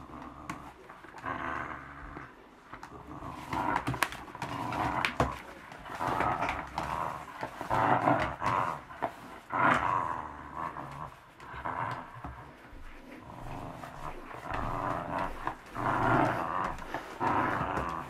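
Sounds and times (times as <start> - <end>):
puppy growling: 0.0 - 18.0.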